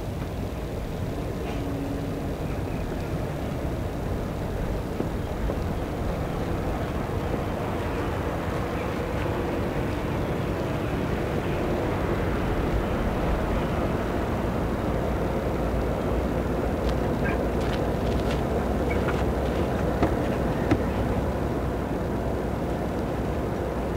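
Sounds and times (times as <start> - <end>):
low outdoor rumble: 0.0 - 23.9.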